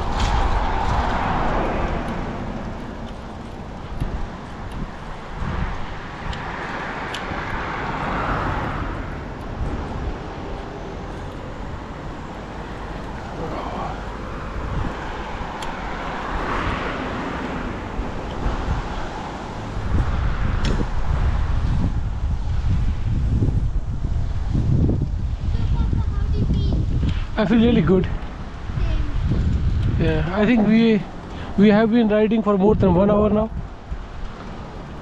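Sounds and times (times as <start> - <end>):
cars passing: 0.0 - 35.0
wind rumble on microphone: 0.0 - 35.0.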